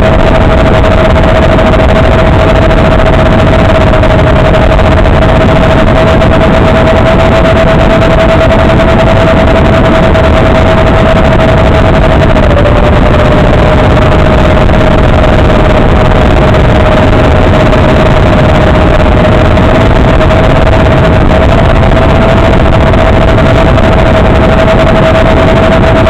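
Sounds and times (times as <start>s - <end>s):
drone motors whining: 0.0s - 26.0s
rushing wind noise: 0.0s - 26.0s.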